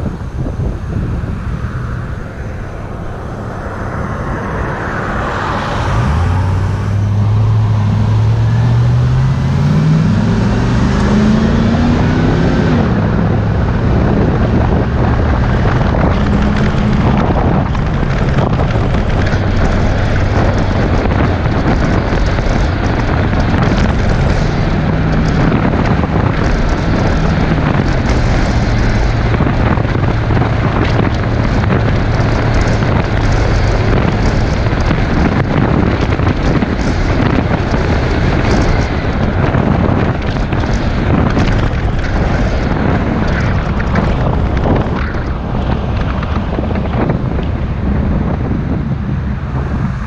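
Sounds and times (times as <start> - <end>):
road noise: 0.0 - 50.0
truck engine hum: 0.0 - 50.0
wind buffeting microphone: 0.0 - 50.0.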